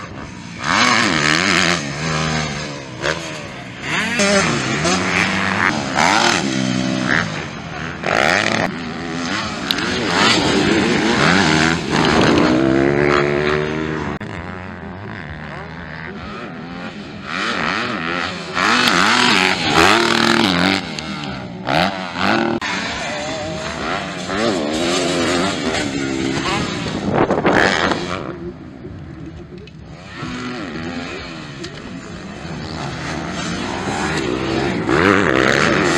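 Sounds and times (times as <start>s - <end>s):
dirt bike engines revving: 0.0s - 35.9s.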